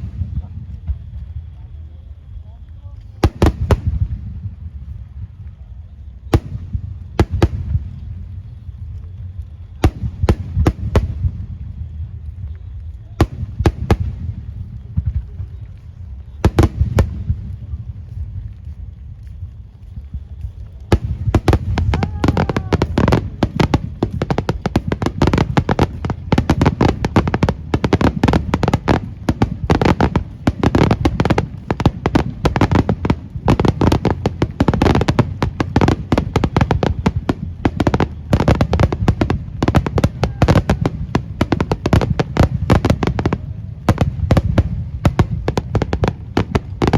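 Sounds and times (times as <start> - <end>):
fireworks bangs: 0.0 - 1.8, 2.4 - 46.9.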